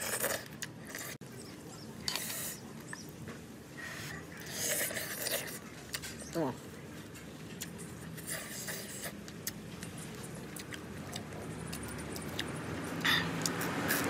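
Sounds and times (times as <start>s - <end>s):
chewing crispy noodles: 0.0s - 3.2s, 3.8s - 14.0s
low traffic rumble: 0.0s - 14.0s.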